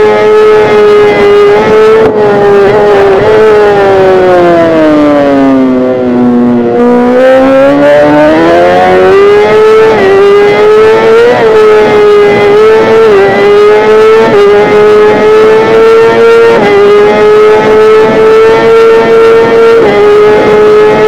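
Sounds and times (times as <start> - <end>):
motorcycle engine revving under load: 0.0 - 21.0.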